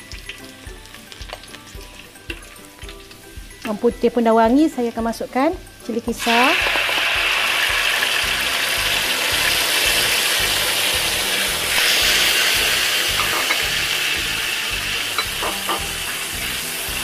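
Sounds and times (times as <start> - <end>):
paste sizzling in hot oil: 0.0 - 3.9, 5.6 - 17.0.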